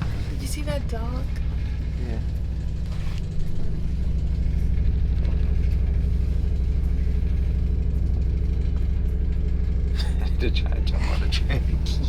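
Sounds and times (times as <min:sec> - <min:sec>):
diesel train engine idling: 0:00.0 - 0:12.0.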